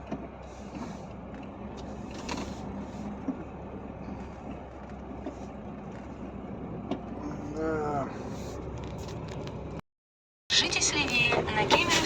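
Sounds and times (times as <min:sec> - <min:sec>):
truck engine drone from cab: 0:00.0 - 0:09.8, 0:10.5 - 0:12.0.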